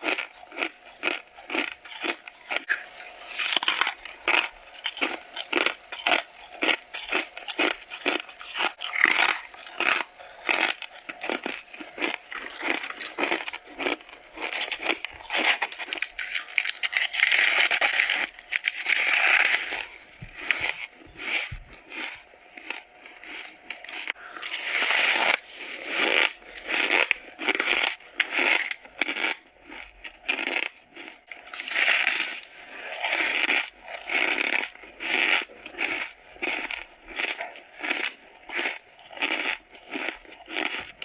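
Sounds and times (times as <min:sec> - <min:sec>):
frost being chewed: 0:00.0 - 0:41.0.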